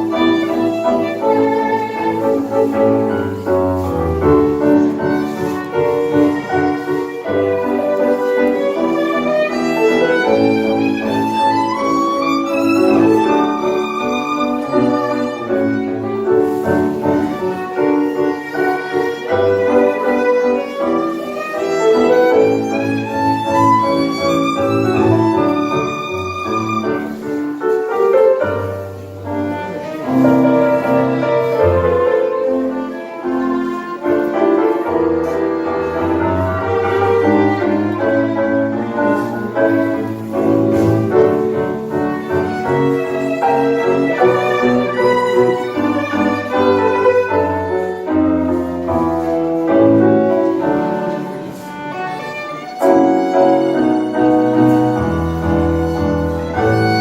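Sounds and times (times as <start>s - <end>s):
piano accompaniment: 0.0s - 57.0s
tango violin melody: 0.0s - 57.0s.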